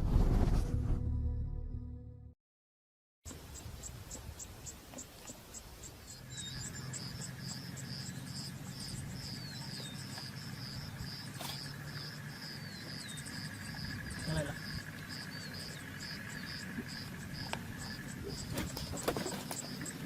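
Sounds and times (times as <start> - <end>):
insects chirping rhythmically: 3.3 - 20.0.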